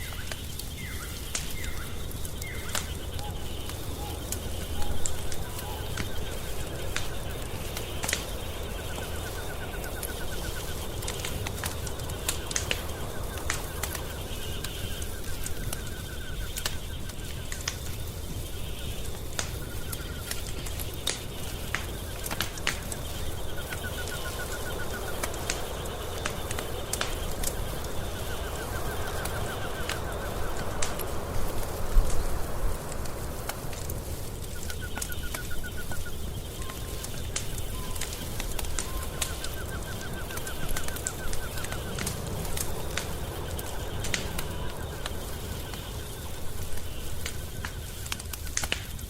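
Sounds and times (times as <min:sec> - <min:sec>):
fire crackling in a fireplace: 0:00.0 - 0:49.0.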